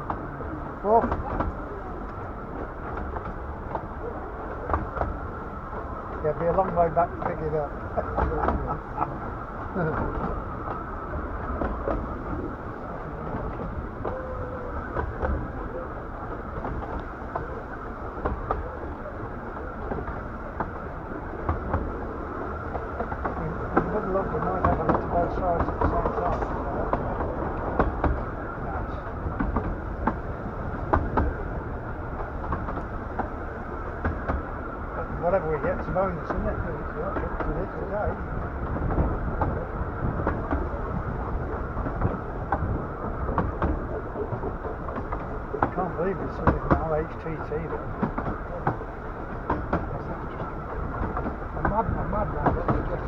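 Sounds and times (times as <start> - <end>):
miniature train rumbling on track: 0.0 - 53.0.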